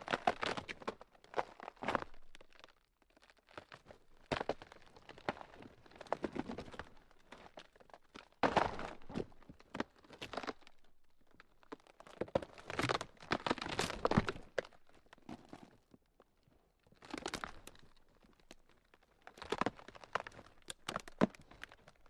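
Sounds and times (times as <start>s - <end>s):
ground cracking and crunching: 0.0s - 16.0s, 16.9s - 22.0s.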